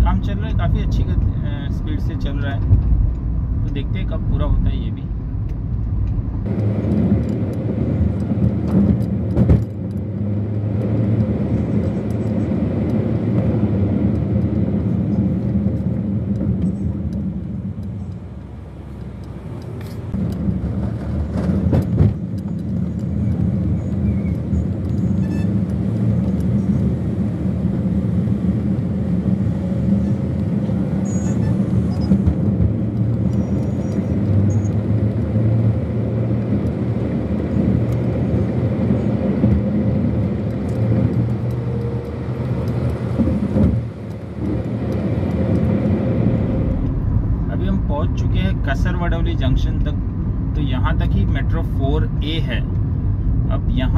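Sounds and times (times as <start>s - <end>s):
car engine and road hum: 0.0s - 53.9s.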